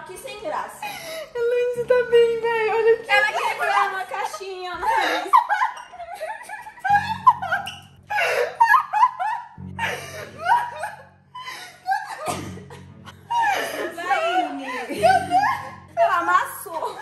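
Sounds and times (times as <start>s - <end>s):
background music: 0.0s - 17.0s
women laughing: 0.8s - 17.0s.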